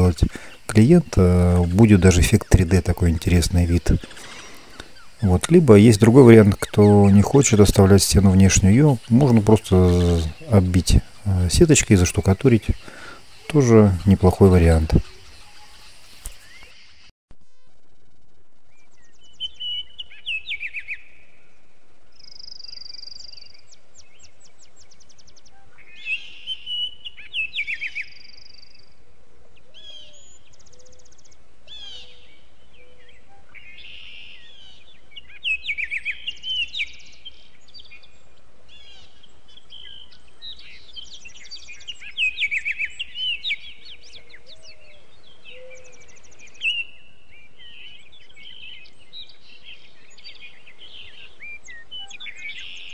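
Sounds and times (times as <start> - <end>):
songbirds chirping and trilling: 0.0 - 17.7, 18.6 - 52.9
faint steady background noise: 0.0 - 52.9.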